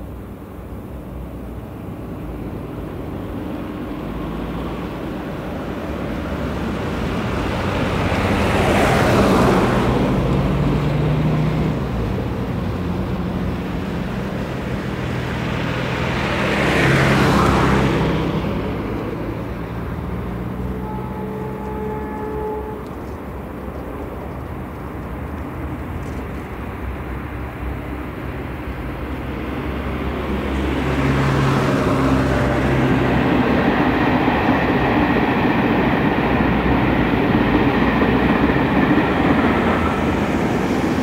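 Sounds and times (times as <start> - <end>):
vehicles passing by: 0.0 - 41.0.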